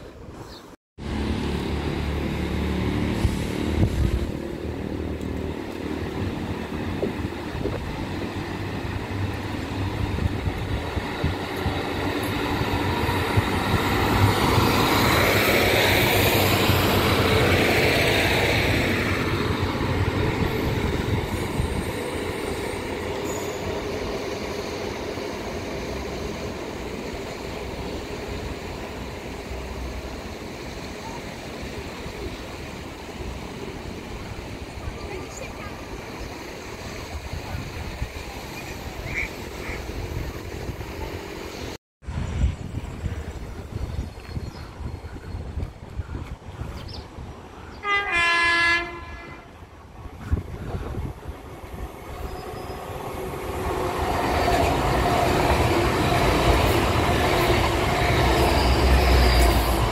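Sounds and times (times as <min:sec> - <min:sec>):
diesel train engine droning: 0:01.0 - 0:41.1, 0:47.8 - 0:59.9.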